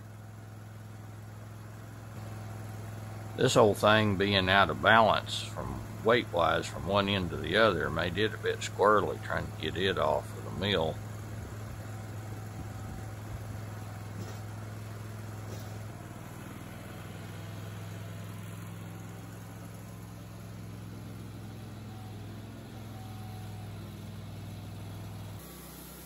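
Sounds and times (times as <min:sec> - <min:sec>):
sawmill engine humming: 0:00.0 - 0:26.0.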